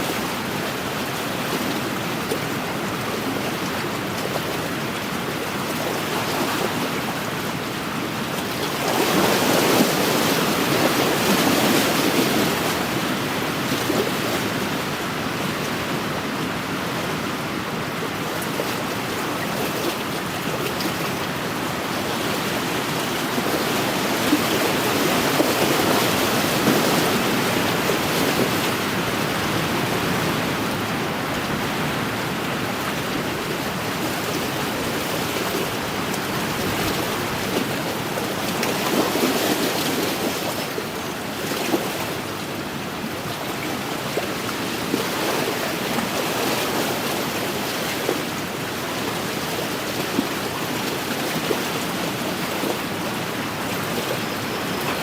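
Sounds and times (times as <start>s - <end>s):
waves lapping against shore: 0.0s - 55.0s.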